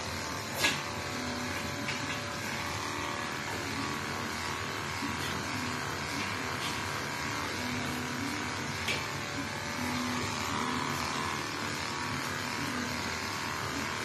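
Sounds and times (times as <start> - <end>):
electric hair clipper running: 0.0 - 14.0.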